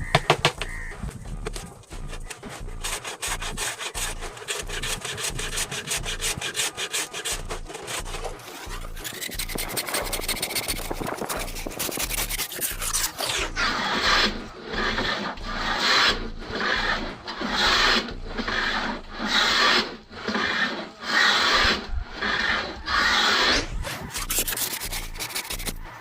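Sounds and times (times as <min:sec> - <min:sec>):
hand file scraping laminate: 0:00.0 - 0:26.0.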